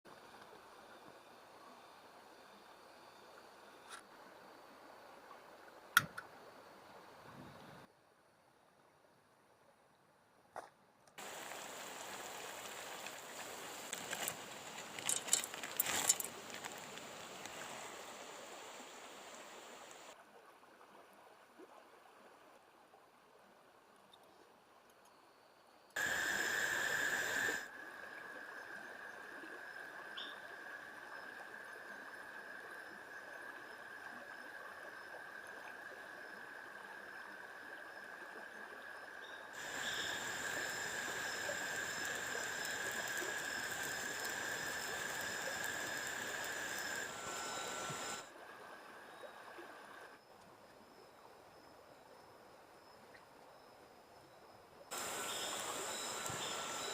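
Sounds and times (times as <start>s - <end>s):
stream-like hiss: 0.1s - 7.9s, 11.2s - 24.0s, 25.2s - 54.1s, 54.8s - 56.9s.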